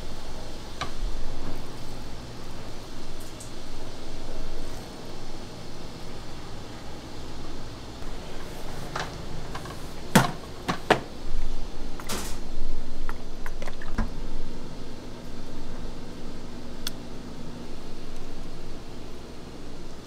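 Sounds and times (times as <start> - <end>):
kitchen fan humming: 0.0 - 20.0.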